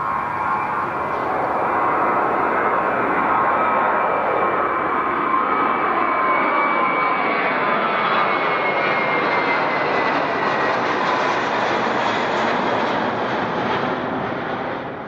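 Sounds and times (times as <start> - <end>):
airliner engines running: 0.0 - 15.0
high engine whine: 0.0 - 15.0.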